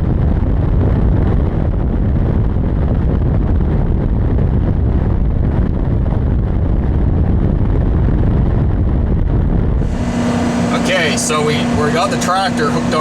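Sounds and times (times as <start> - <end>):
truck engine and tyre rumble: 0.0 - 13.0.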